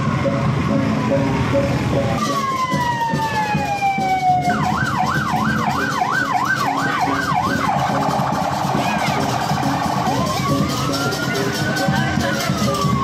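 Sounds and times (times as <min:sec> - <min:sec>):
electronic siren wailing: 0:00.0 - 0:13.0.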